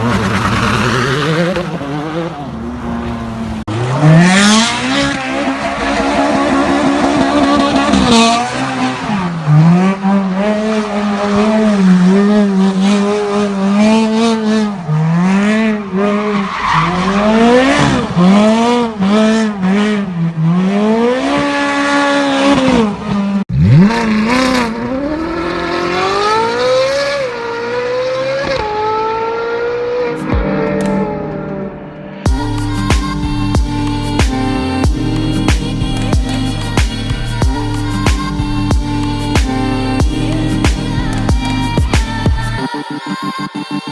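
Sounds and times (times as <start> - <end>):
car engines revving: 0.0 - 42.6.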